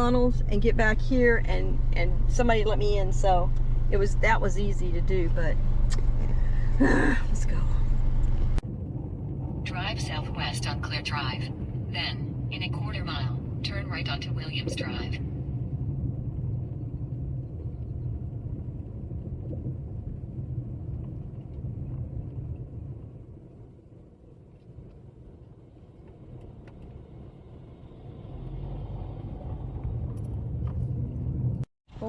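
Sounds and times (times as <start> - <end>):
car road noise: 0.0 - 32.0.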